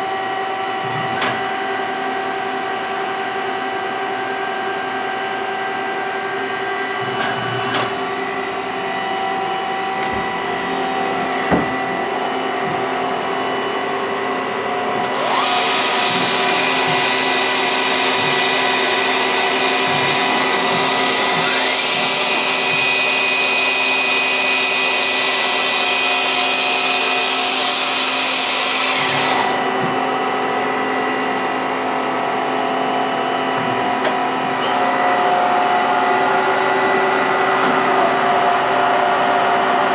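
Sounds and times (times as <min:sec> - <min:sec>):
lathe humming and whining: 0:00.0 - 0:39.9.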